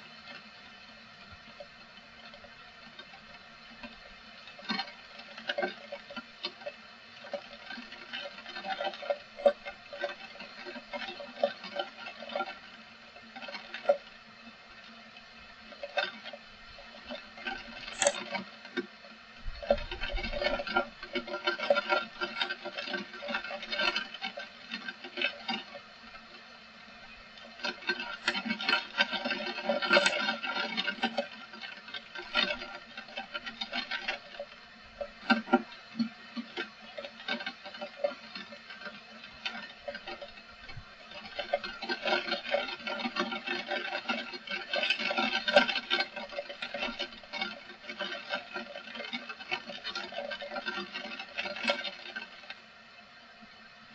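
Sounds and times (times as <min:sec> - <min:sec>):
rain pattering and dripping: 0:00.0 - 0:53.9.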